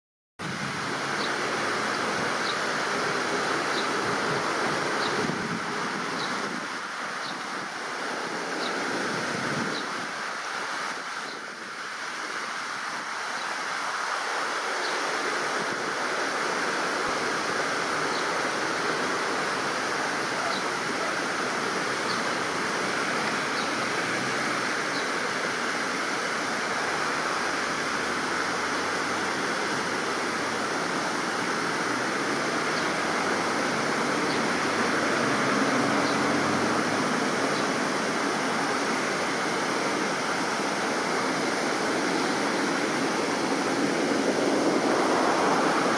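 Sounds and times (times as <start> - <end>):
steady rushing noise: 0.4 - 45.9.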